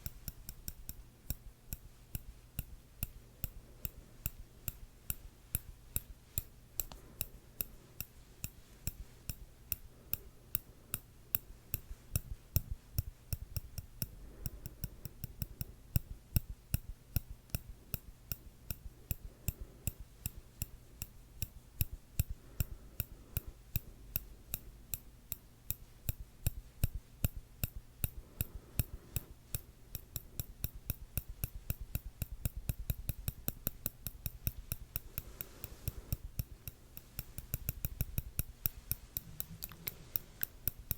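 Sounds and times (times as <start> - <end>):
metal tweezers clicking: 0.0 - 40.9.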